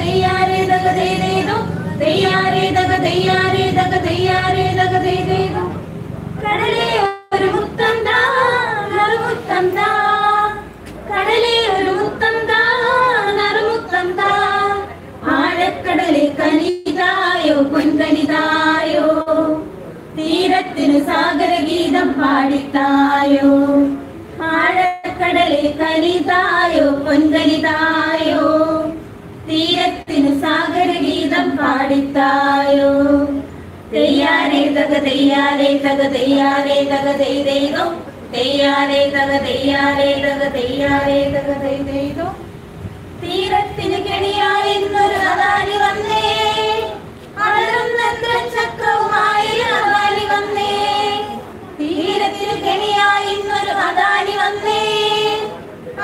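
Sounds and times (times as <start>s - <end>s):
women singing together unaccompanied: 0.0s - 56.0s.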